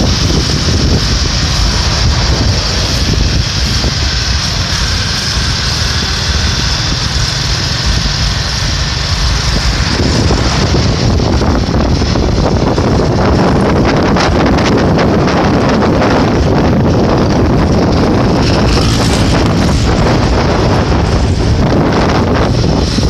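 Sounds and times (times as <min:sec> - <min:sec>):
motorcycle engine rumble: 0:00.0 - 0:23.0
road noise: 0:00.0 - 0:23.0
wind buffeting microphone: 0:00.0 - 0:23.0.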